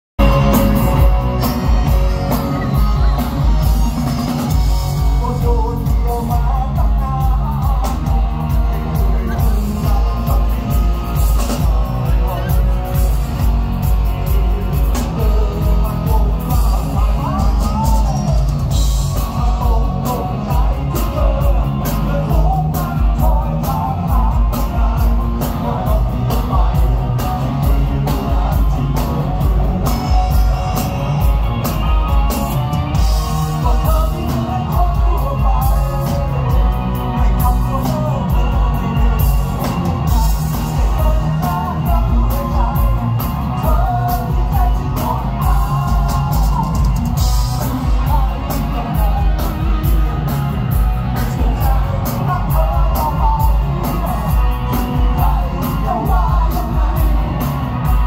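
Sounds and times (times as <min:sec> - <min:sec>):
live rock band playing: 0:00.2 - 0:58.0
man singing: 0:00.2 - 0:58.0.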